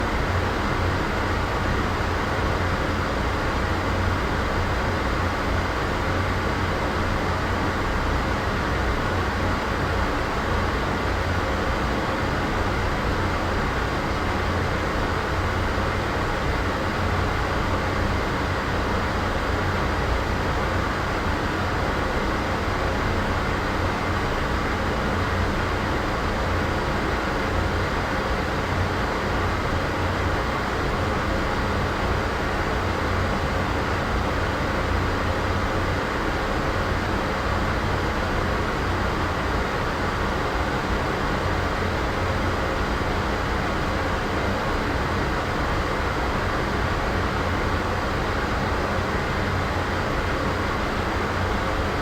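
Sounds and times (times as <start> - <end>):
steady background noise: 0.0 - 52.0.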